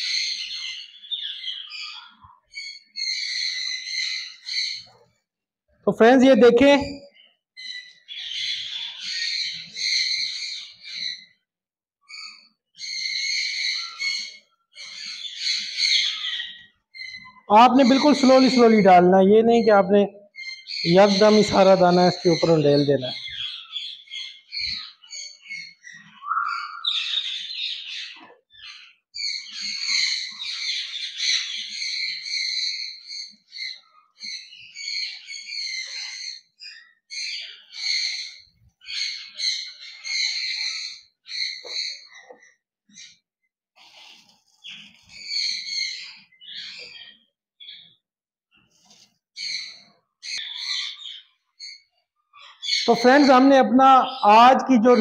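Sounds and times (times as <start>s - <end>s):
parrots screeching: 0.0s - 4.9s, 7.6s - 11.4s, 12.1s - 19.0s, 20.3s - 43.2s, 43.9s - 47.9s, 49.4s - 55.0s.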